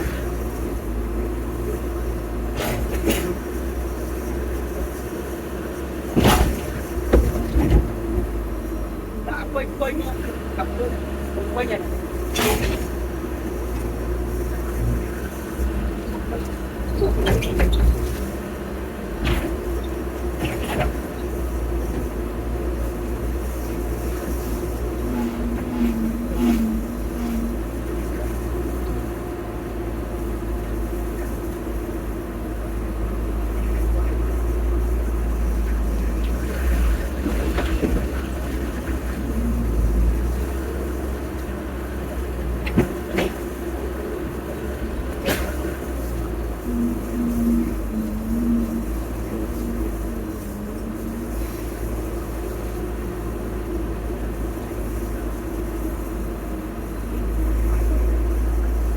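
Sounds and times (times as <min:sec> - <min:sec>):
heavy machinery engine running: 0:00.0 - 0:58.9.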